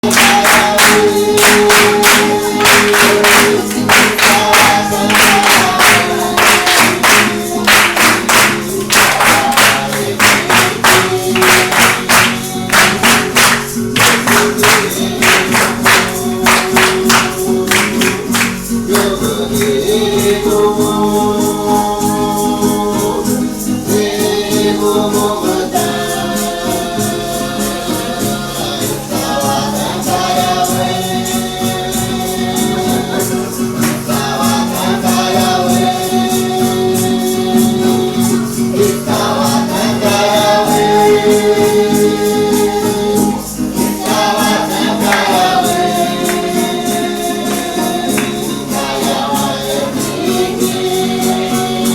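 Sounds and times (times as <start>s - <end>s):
group singing: 0.0s - 51.9s.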